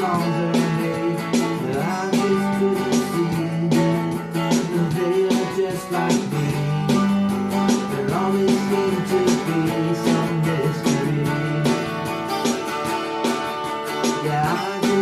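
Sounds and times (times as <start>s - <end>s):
strummed guitar music: 0.0s - 15.0s.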